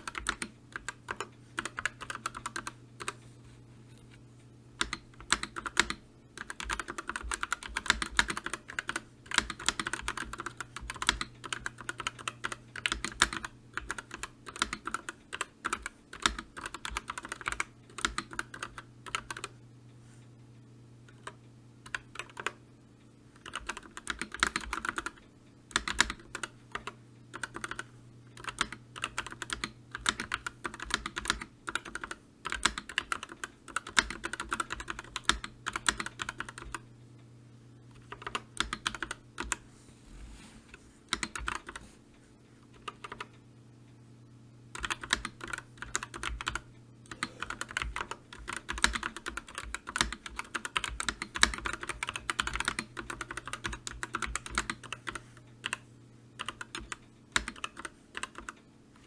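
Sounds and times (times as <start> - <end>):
keyboard typing clicks: 0.0 - 3.3, 4.8 - 19.6, 21.1 - 22.6, 23.4 - 36.9, 37.9 - 39.6, 41.1 - 41.8, 42.7 - 43.4, 44.7 - 55.8, 56.4 - 58.6.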